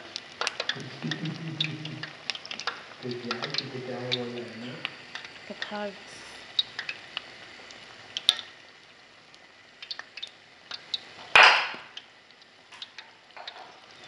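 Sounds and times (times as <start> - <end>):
dough frying in hot oil: 0.0 - 14.0.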